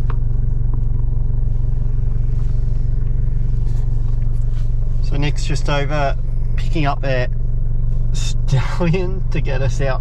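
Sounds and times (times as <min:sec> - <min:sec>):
motor vehicle engine rumbling: 0:00.0 - 0:10.0.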